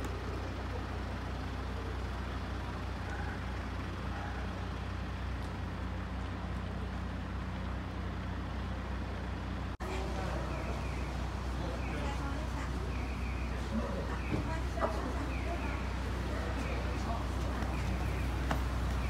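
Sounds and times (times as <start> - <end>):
engine idling: 0.0 - 19.0
street noise: 0.0 - 19.0.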